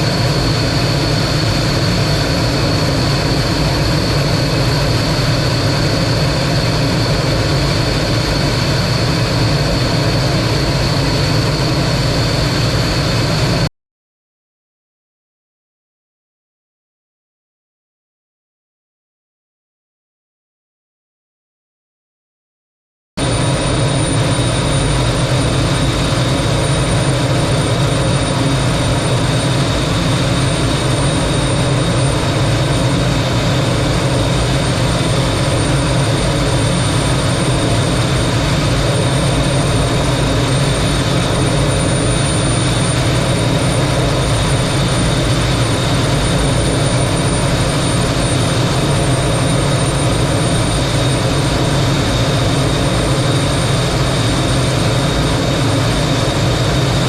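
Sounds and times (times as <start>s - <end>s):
jet engine roaring with high whine: 0.0s - 13.7s, 23.2s - 57.0s.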